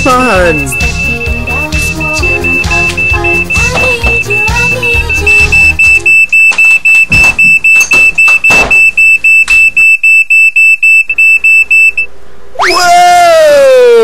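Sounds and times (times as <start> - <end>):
smoke alarm beeping: 0.0 - 12.1.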